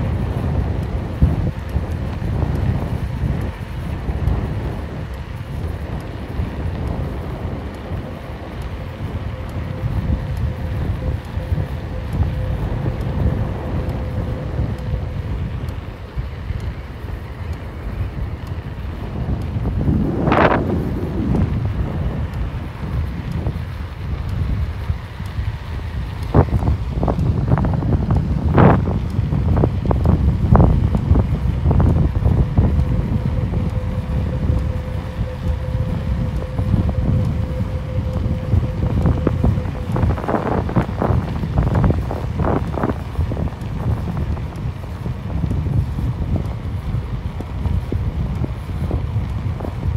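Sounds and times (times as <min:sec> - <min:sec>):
faint steady hum: 0:00.0 - 0:49.9
vehicle road rumble: 0:00.0 - 0:49.9
wind buffeting microphone: 0:00.0 - 0:49.9.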